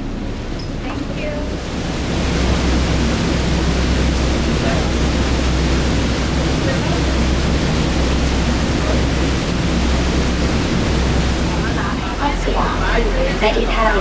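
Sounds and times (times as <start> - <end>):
boat engine drone: 0.0 - 14.0
rush of wind and water: 0.0 - 14.0.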